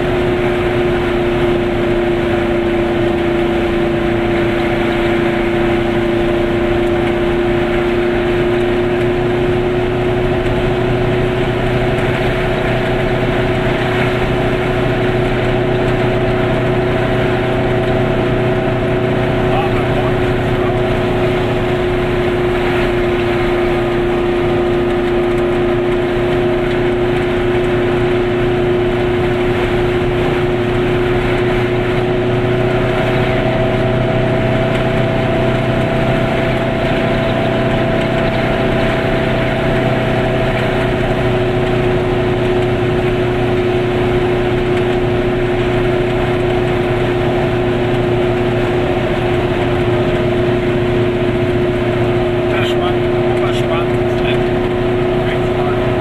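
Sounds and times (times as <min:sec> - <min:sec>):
two-stroke car engine running: 0:00.0 - 0:56.0
tyre and road noise: 0:00.0 - 0:56.0.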